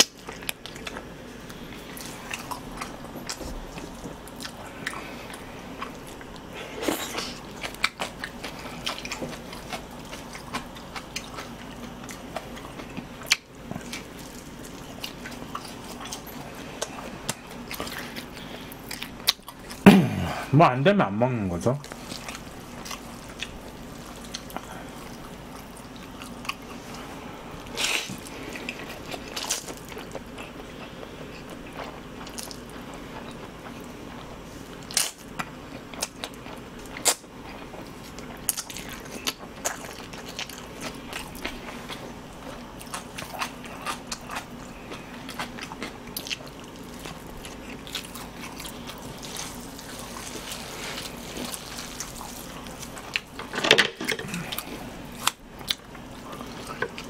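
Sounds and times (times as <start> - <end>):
person chewing noodles: 0.0 - 20.4, 21.8 - 53.5, 54.1 - 57.0.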